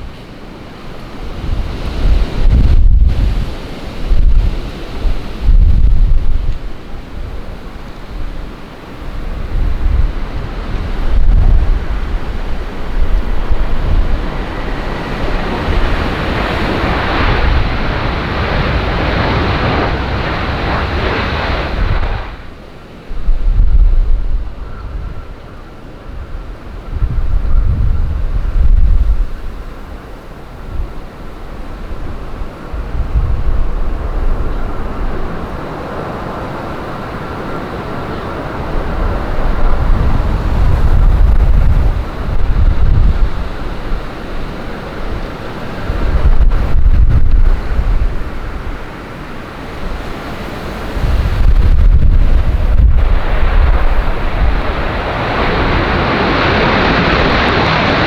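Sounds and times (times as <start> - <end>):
jet engines rushing: 0.0 - 58.0
wind buffeting microphone: 0.0 - 58.0.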